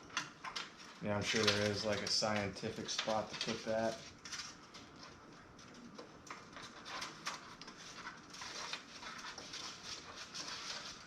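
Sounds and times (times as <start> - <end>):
hands handling computer parts: 0.0 - 11.0.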